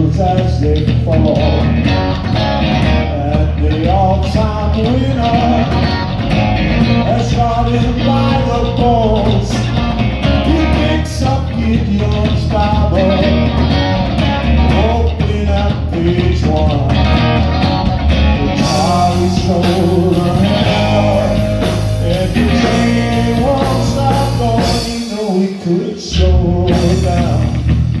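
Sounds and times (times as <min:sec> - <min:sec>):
person singing: 0:00.0 - 0:06.2, 0:06.8 - 0:27.7
drum kit: 0:00.0 - 0:28.0
electric bass: 0:00.0 - 0:28.0
electric guitar: 0:00.0 - 0:28.0.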